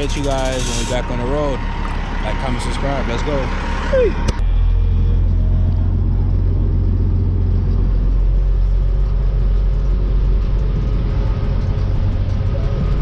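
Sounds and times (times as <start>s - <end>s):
diesel truck engine rumble: 0.0s - 13.0s.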